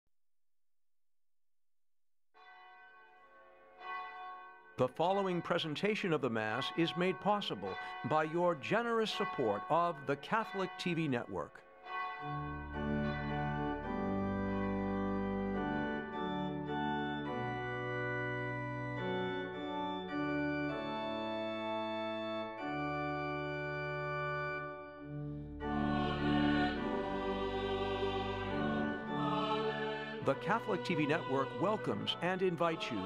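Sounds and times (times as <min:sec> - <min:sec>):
organ music: 0:02.8 - 0:33.0.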